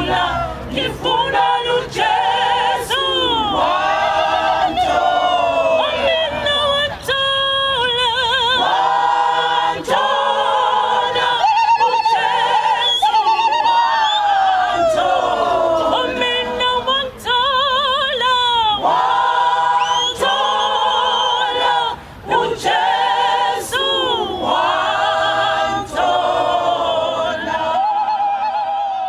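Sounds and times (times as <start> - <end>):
choir singing a cappella: 0.0 - 29.0.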